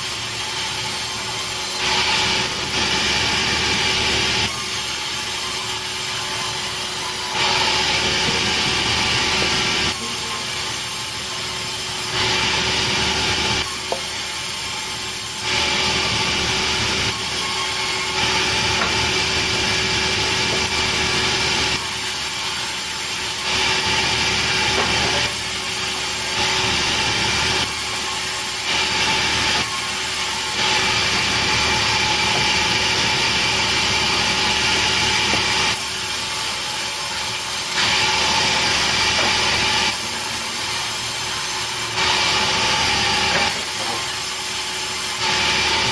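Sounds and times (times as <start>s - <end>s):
sawmill saw cutting wood: 0.0s - 45.9s.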